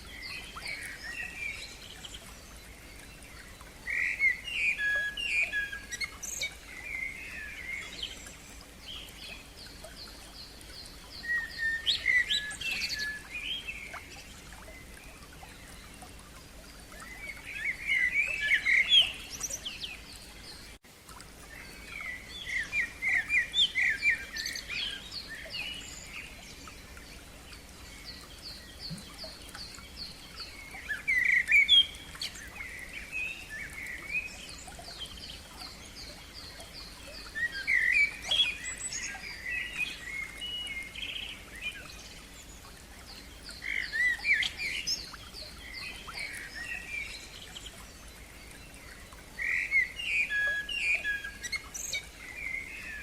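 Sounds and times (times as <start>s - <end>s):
songbirds warbling: 0.0s - 53.0s.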